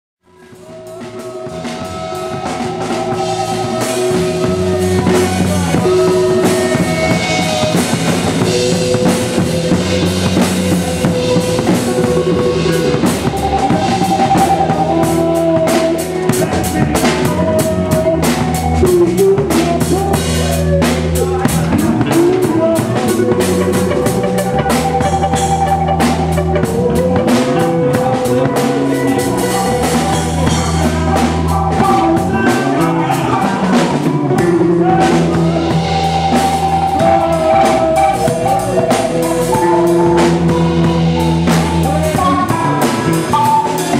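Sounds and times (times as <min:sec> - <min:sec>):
bass: 0:00.2 - 0:43.9
drum kit drumming: 0:00.3 - 0:43.9
electric guitars: 0:00.3 - 0:43.9.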